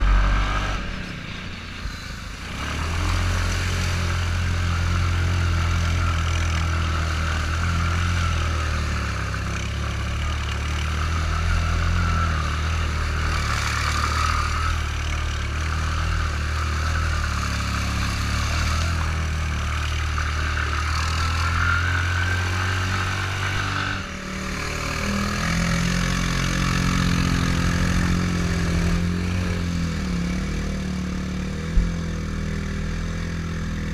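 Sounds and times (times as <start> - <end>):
off-road vehicle engine driving through mud: 0.0 - 33.9.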